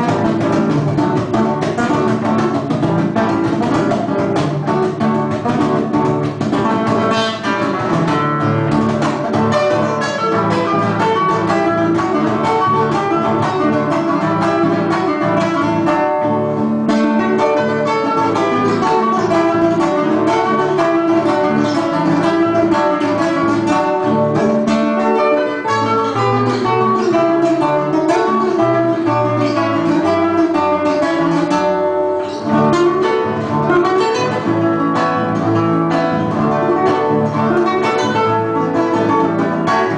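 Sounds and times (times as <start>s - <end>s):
acoustic guitars playing folk music: 0.0s - 39.9s.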